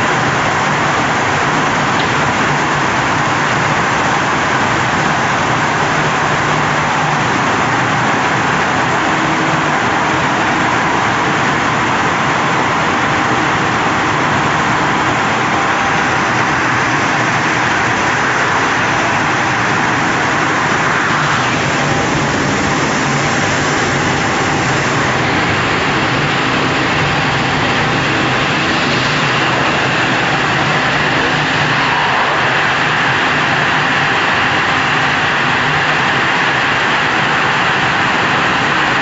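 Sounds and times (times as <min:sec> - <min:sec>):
glass washing machine running: 0:00.0 - 0:39.0.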